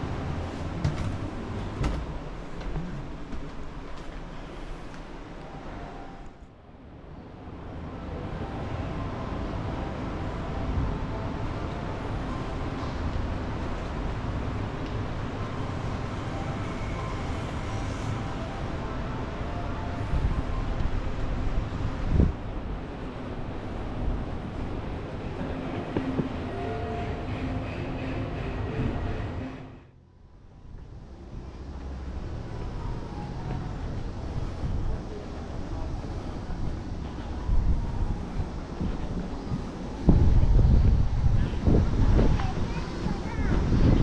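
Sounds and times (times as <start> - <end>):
vehicle rumble: 0.0 - 44.0.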